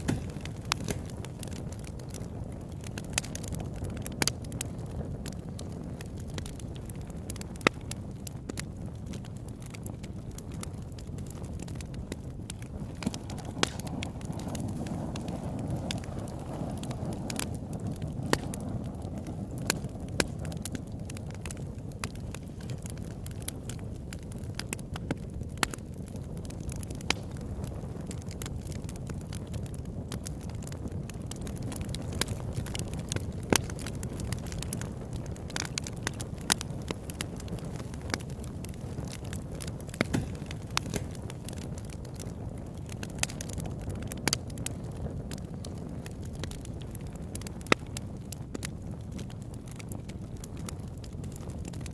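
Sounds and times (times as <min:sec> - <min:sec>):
campfire flames rumbling: 0:00.0 - 0:51.9
fire crackling and popping: 0:00.0 - 0:51.9.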